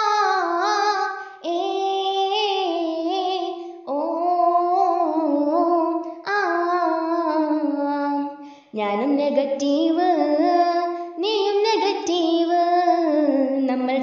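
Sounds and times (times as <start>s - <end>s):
high voice singing wordless melody: 0.0s - 14.0s.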